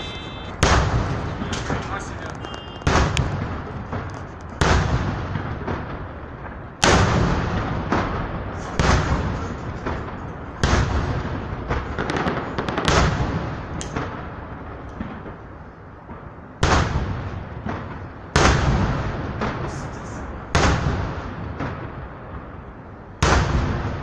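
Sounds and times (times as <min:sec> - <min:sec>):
firework deep booms: 0:00.0 - 0:24.0
sharp firework pops: 0:00.4 - 0:14.2, 0:14.9 - 0:22.5, 0:23.2 - 0:24.0.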